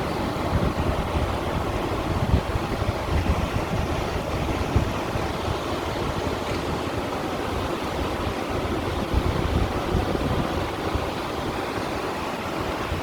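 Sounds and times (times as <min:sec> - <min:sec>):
waves splashing over stones: 0:00.0 - 0:13.0.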